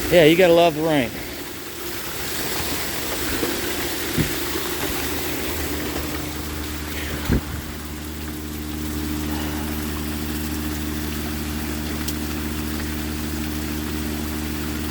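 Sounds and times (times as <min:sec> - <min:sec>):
heavy rain hissing: 0:00.0 - 0:14.9
water pump humming: 0:00.0 - 0:14.9.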